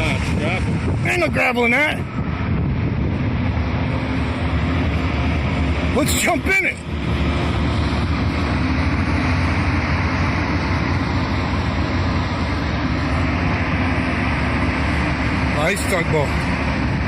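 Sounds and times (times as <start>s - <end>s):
loud engine rumble: 0.0s - 17.0s.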